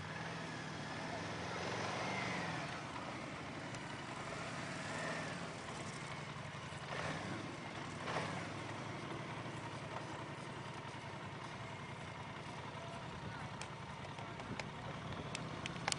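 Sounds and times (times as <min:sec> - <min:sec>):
quad bike engines idling: 0:00.0 - 0:15.9.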